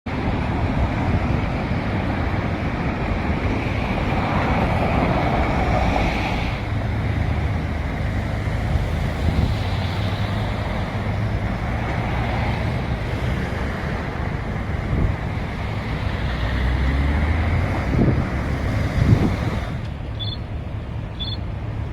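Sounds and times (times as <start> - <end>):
low engine rumble: 0.1 - 21.9
wind noise on microphone: 0.1 - 21.9.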